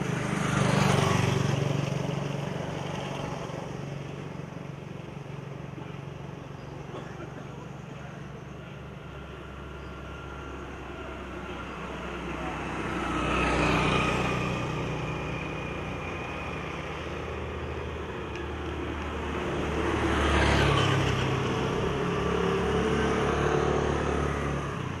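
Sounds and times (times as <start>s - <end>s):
motor scooters passing: 0.0s - 25.0s.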